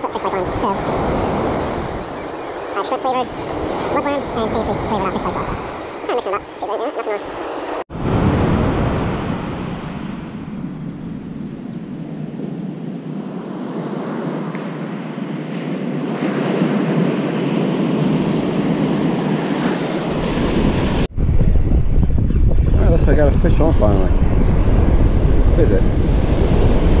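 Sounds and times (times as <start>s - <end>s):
ocean surf breaking: 0.0s - 21.1s, 24.0s - 27.0s
wind buffeting microphone: 0.0s - 27.0s.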